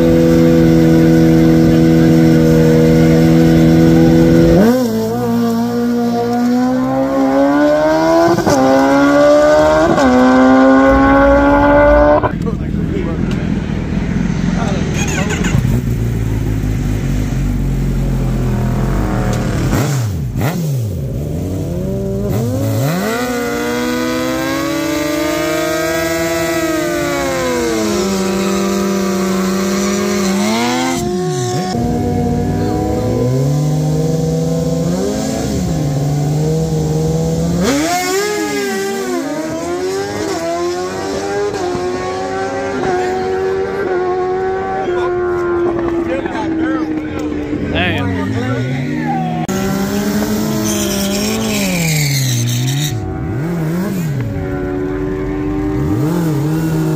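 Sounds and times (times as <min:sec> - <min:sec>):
motorcycle engine revving hard: 0:00.0 - 0:13.2, 0:14.1 - 0:56.9.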